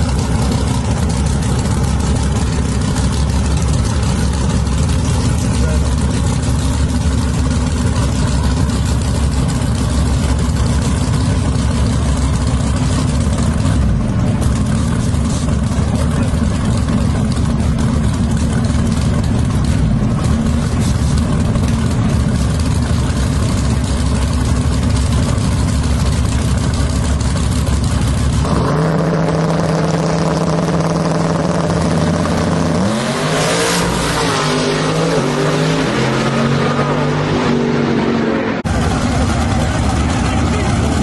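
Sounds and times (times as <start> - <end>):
engines idling with low rumble: 0.0 - 32.9, 38.6 - 41.0
engine revving: 0.0 - 41.0.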